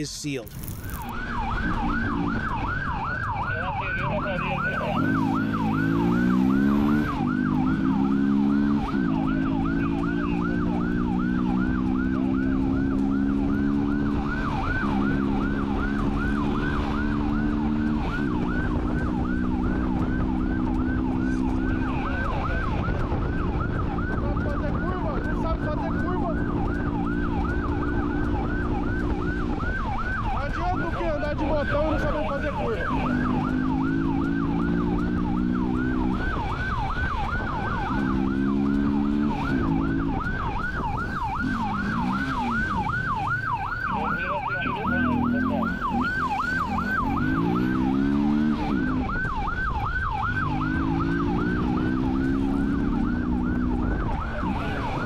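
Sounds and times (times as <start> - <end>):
police siren yelping: 0.0 - 55.0
vehicle engine accelerating: 0.5 - 55.0.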